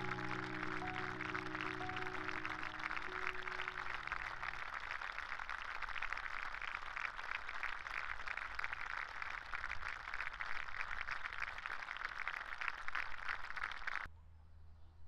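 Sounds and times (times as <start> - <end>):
crowd applauding: 0.0 - 14.1.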